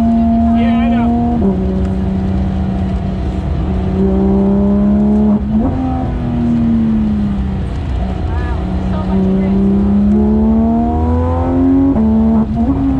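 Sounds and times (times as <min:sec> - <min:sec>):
car engine accelerating: 0:00.0 - 0:12.9
gear change: 0:00.0 - 0:12.9.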